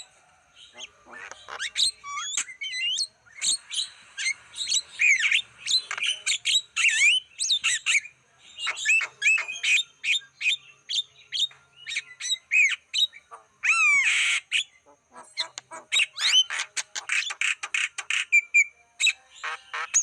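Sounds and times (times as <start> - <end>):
myna squawks chirps and whistles: 0.8 - 10.2, 12.3 - 20.0.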